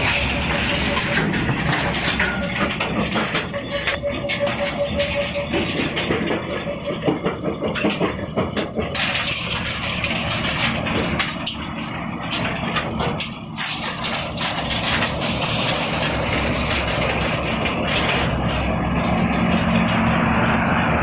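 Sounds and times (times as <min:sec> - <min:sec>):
irregular clicking and clatter: 0:00.0 - 0:21.0
machinery running: 0:00.0 - 0:21.0.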